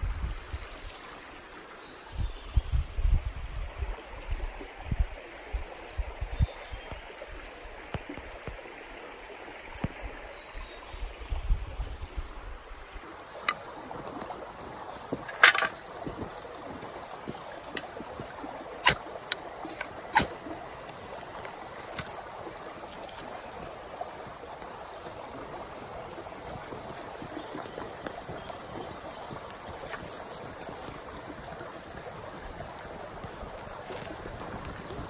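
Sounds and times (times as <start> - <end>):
mountain stream flowing: 0.0 - 2.1, 3.5 - 35.0.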